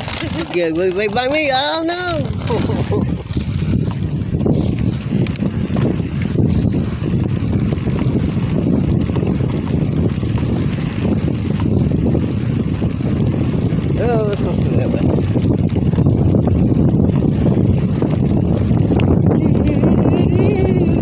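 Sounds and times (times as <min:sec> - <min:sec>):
bicycle tyre rolling on concrete: 0:00.0 - 0:21.0
wind buffeting microphone: 0:00.0 - 0:21.0.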